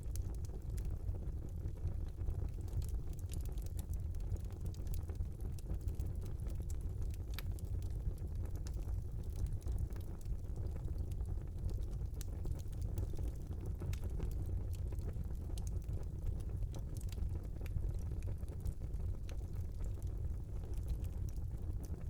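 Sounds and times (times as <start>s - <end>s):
fire crackling and popping: 0.0s - 22.0s
fire rumbling: 0.0s - 22.0s.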